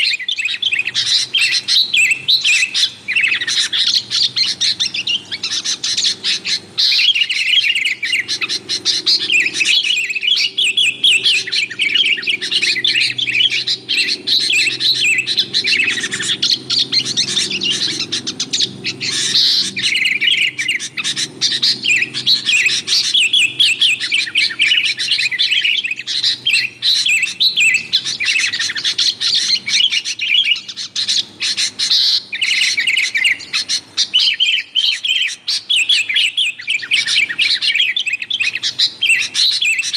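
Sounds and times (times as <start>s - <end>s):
bulbuls chirping and chattering: 0.0s - 39.9s.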